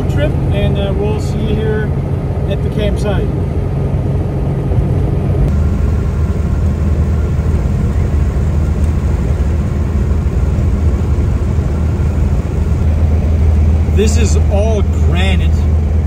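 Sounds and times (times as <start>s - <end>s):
car engine droning: 0.0s - 16.0s
road noise: 0.0s - 16.0s.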